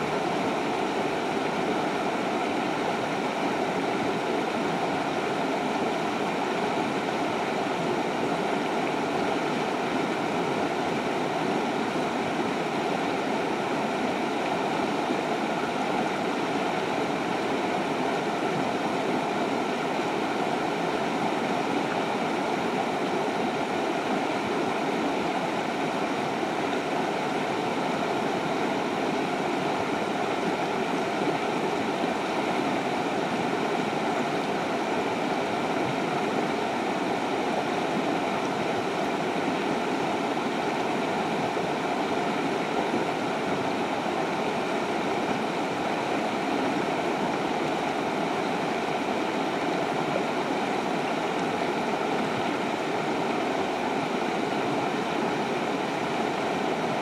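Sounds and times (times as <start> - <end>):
river rapids rushing over rocks: 0.0 - 57.0.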